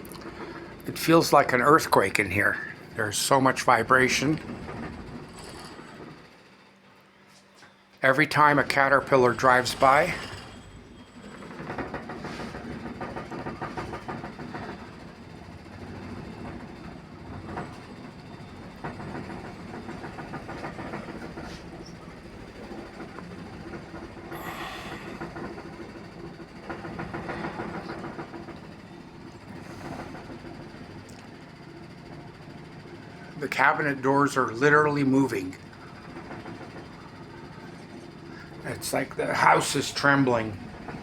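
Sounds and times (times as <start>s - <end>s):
construction machine rumble: 0.0s - 7.0s, 8.0s - 41.0s.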